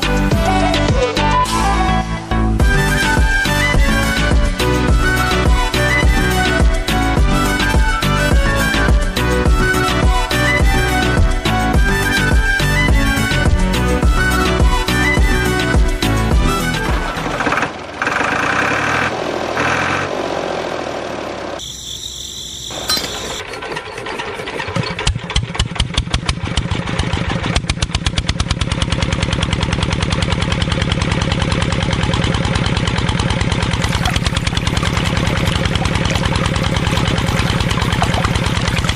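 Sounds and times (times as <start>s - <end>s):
tractor diesel engine starting: 0.0s - 38.9s.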